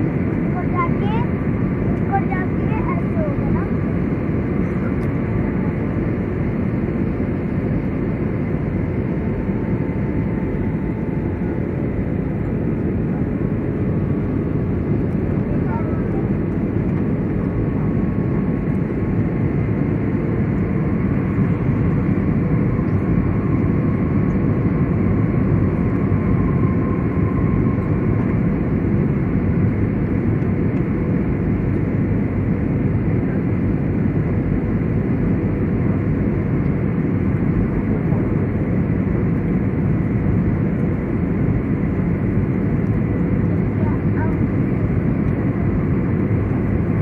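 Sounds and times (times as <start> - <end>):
airliner cabin engine roar: 0.0 - 47.0.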